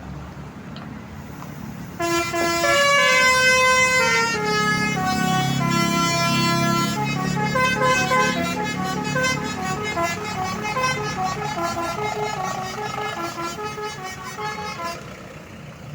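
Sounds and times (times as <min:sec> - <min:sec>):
musical bus horn melody: 0:01.2 - 0:15.6.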